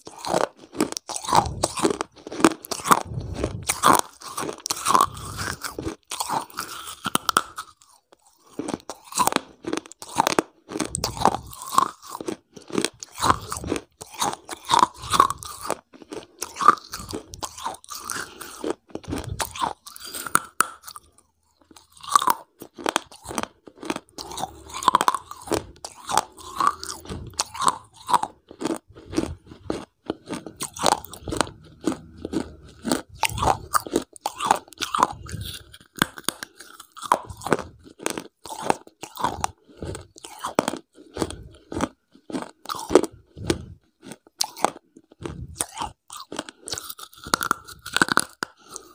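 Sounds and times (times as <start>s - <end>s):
person chewing crisp crunches: 0.0s - 48.9s.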